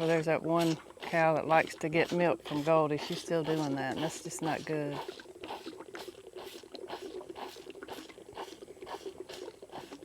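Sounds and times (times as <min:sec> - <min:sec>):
calf sucking on feeding bottle: 0:00.0 - 0:10.0.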